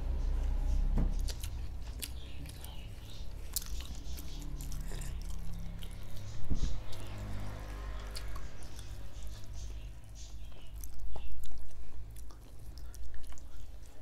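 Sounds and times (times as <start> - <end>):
close-up chewing and eating: 0.0 - 14.0.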